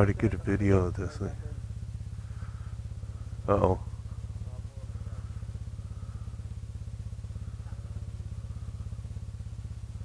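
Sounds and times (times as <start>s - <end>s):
scooter engine running steadily: 0.0s - 10.0s.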